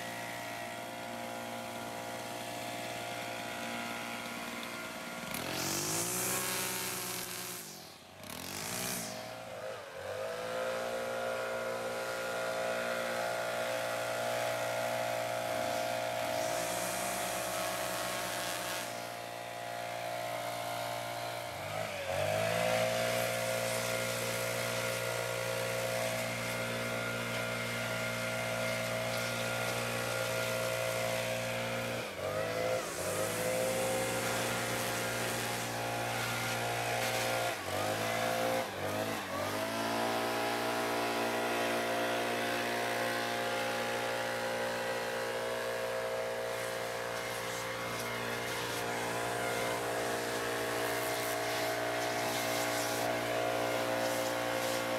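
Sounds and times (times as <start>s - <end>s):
hedge trimmer engine: 0.0s - 54.9s
leaf blower engine: 0.0s - 54.9s.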